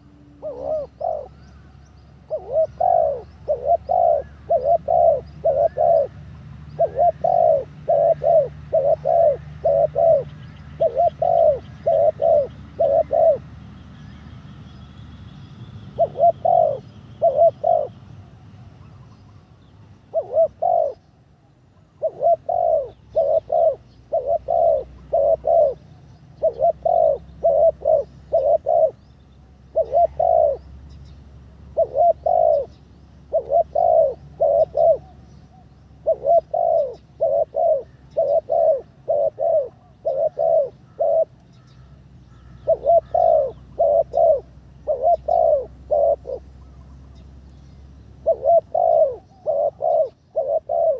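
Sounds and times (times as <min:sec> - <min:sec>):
dove cooing: 0:00.0 - 0:14.2, 0:15.8 - 0:19.1, 0:19.9 - 0:21.2, 0:21.8 - 0:50.9.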